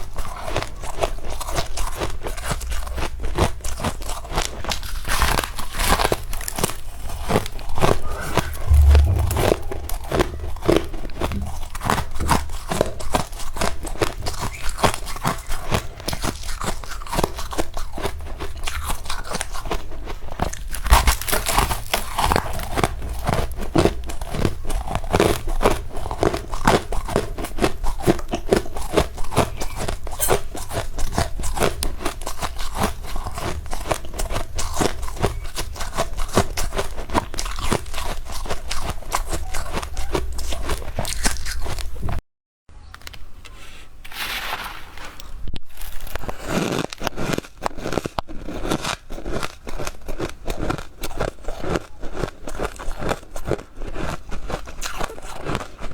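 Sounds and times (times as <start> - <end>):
crunching and chewing frost: 0.0 - 8.2, 11.8 - 42.2, 44.1 - 55.9.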